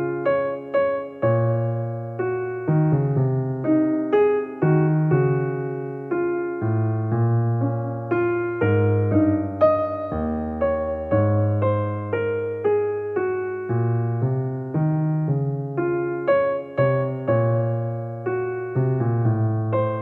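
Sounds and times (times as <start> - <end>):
gentle solo piano piece: 0.0 - 20.0.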